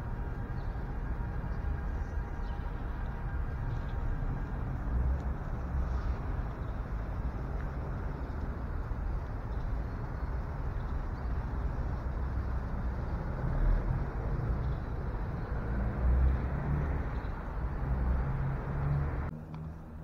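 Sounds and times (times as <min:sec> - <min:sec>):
city traffic rumble: 0:00.0 - 0:20.0
heavy vehicles passing: 0:00.0 - 0:20.0.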